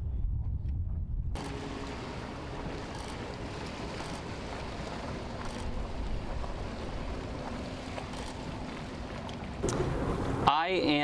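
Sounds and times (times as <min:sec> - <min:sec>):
wind buffeting microphone: 0:00.0 - 0:10.5
boat motor humming: 0:01.4 - 0:11.0
water washing along hull: 0:01.4 - 0:11.0.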